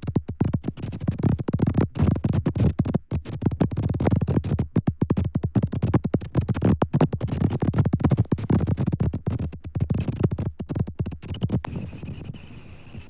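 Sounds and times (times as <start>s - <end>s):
rapid crackling and scratching: 0.0s - 13.0s.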